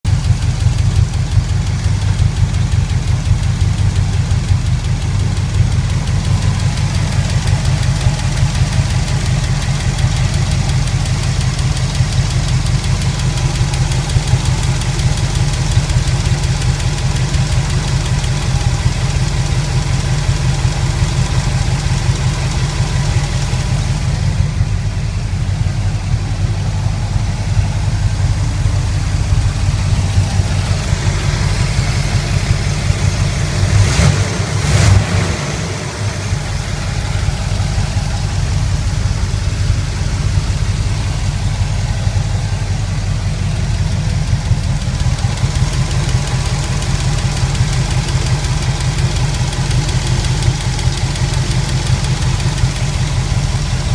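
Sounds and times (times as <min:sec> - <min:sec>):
engine running steadily: 0:00.1 - 0:53.9.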